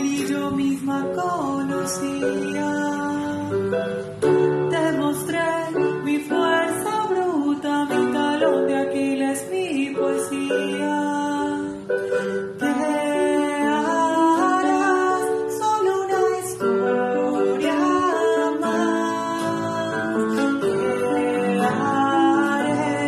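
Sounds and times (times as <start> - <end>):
plucked guitar: 0.0 - 23.0
woman singing into microphone: 0.0 - 23.0.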